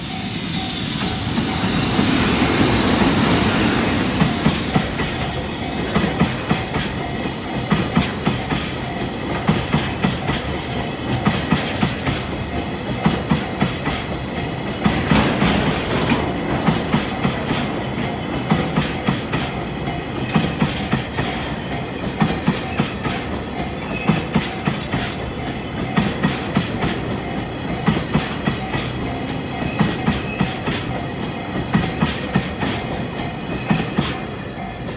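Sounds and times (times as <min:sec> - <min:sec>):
freight train passing: 0:00.0 - 0:34.9
wheels clacking over rail joints: 0:01.0 - 0:34.9.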